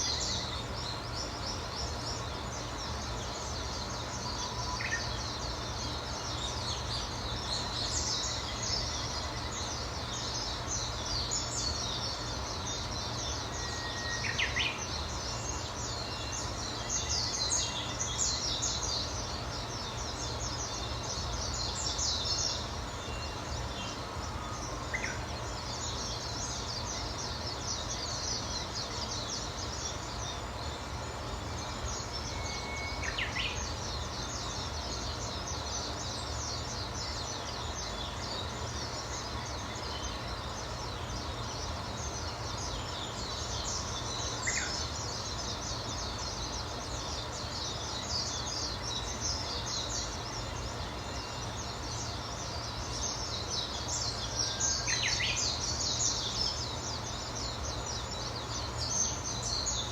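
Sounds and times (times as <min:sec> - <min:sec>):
birds chirping and singing: 0:00.0 - 0:59.9
steady background hiss: 0:00.0 - 0:59.9.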